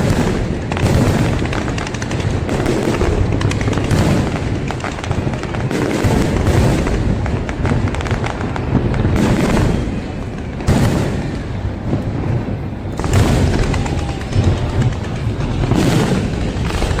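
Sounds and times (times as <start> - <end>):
fireworks booming: 0.0 - 17.0
rumbling and crackle: 0.0 - 17.0.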